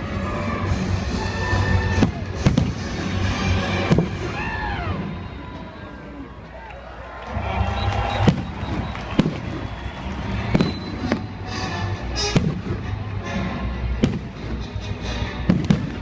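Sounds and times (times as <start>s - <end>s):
fireworks crackling: 0.0s - 13.2s, 13.9s - 16.0s
background music: 0.0s - 16.0s.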